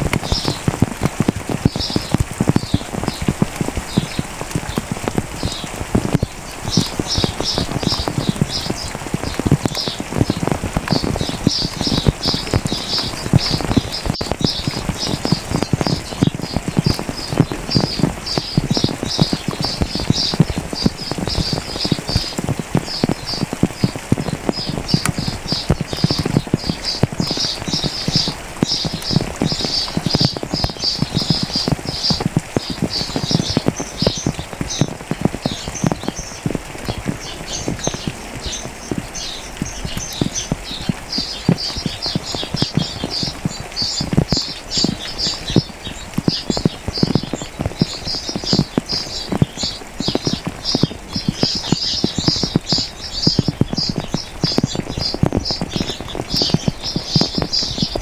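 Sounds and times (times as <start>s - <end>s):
rain falling: 0.0s - 58.0s
small birds chirping: 0.0s - 58.0s.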